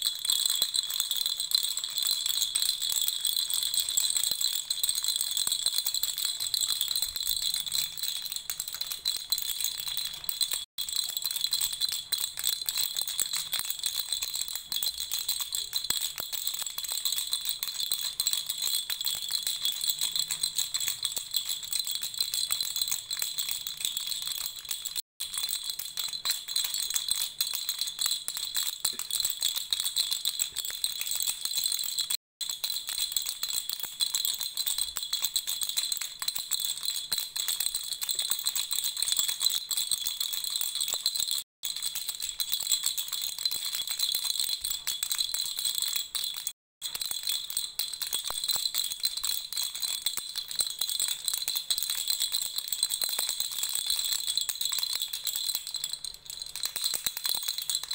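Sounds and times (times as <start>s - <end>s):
baby rattle jingling: 0.0s - 57.9s.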